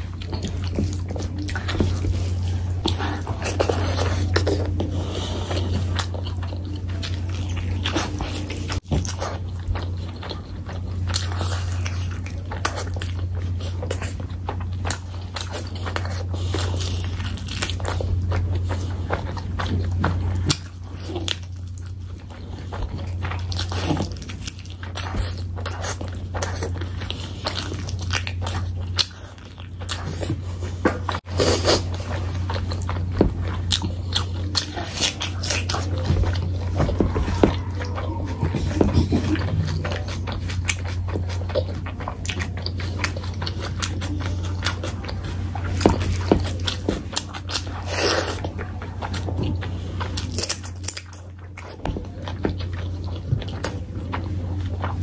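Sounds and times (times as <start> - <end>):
biting meat off bone: 0.0 - 55.0
steady low hum: 0.0 - 55.0
wet chewing: 0.0 - 55.0.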